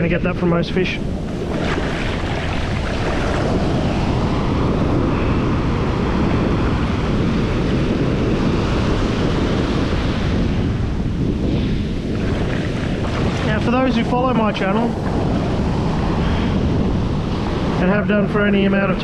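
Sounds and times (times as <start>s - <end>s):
surf washing over wet sand: 0.0s - 19.0s
wind rumbling on microphone: 0.0s - 19.0s.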